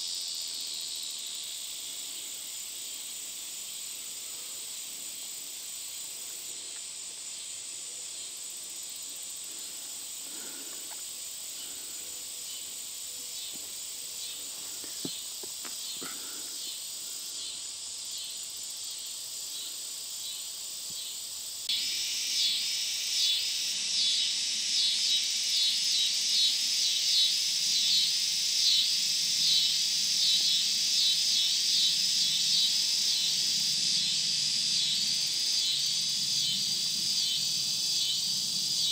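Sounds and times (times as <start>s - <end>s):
insects buzzing: 0.0s - 38.9s
pulsing insect call: 0.0s - 38.9s.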